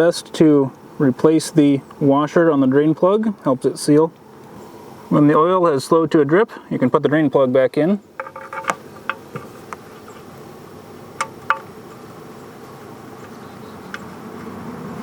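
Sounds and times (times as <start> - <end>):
faint buzzing: 0.0 - 7.4, 8.0 - 15.0.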